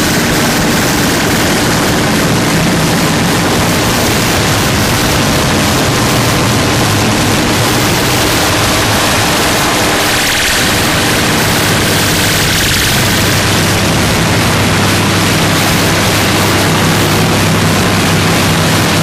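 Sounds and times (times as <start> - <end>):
distorted electronic noise: 0.0 - 19.0.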